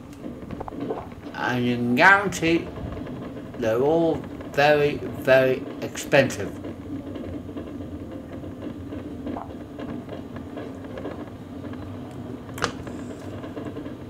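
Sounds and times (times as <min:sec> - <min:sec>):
wheels rumbling on pavement: 0:00.0 - 0:14.0.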